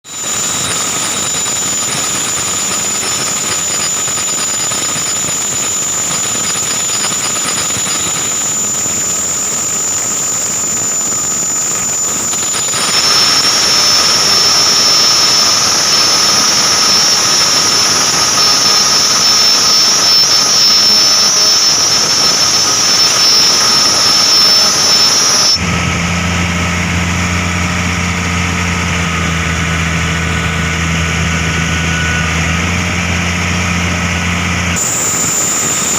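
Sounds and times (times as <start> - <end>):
fan belt squealing: 0.0 - 35.9
machinery running: 0.0 - 35.9.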